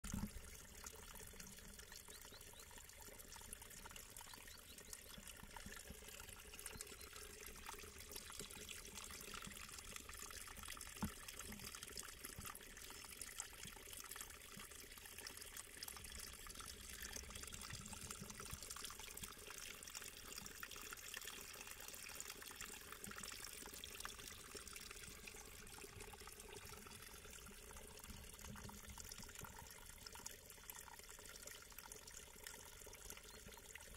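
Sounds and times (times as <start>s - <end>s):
trickle of running water: 0.0s - 33.9s.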